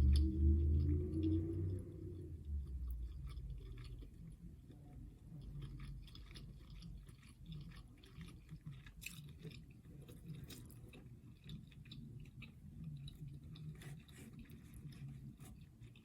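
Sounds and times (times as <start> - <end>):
close-miked chewing: 0.0 - 16.0.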